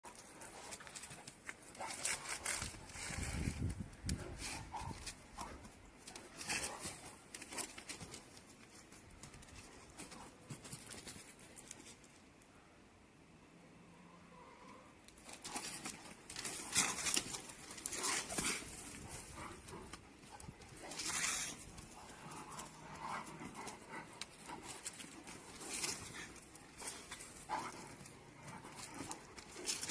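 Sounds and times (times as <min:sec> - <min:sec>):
animals tapping and rustling: 0:00.1 - 0:12.1, 0:15.1 - 0:29.9.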